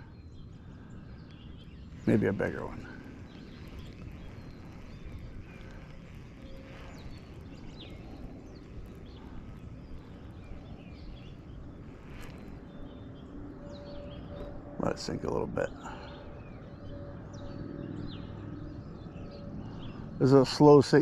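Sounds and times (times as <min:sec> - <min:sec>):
small birds chirping: 0:00.0 - 0:21.0
wind and water rumble: 0:00.0 - 0:21.0.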